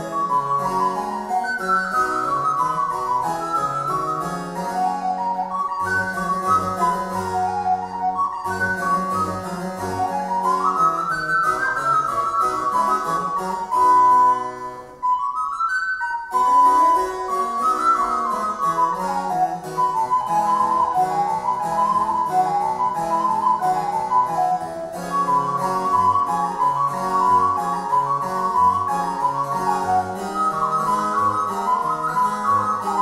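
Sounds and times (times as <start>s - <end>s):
harpsichord accompaniment: 0.0s - 33.0s
recorder melody: 0.0s - 33.0s.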